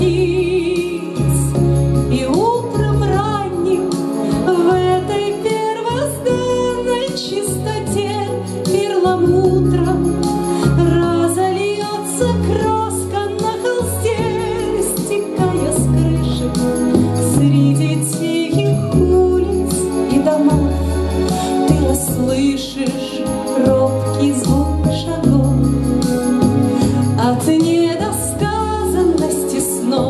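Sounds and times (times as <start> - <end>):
woman singing with vibrato: 0.0 - 25.8, 26.8 - 30.0
instrumental accompaniment: 0.0 - 30.0.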